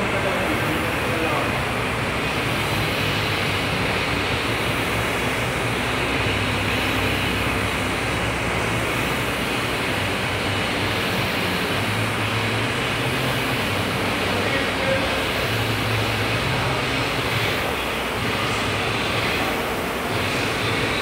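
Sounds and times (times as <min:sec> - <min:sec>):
rowing machine flywheel whoosh: 0:00.0 - 0:21.0.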